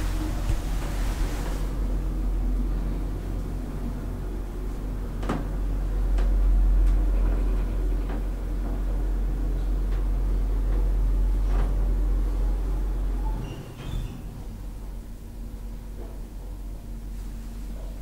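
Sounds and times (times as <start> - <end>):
elevator hum and rumble: 0.0 - 18.0.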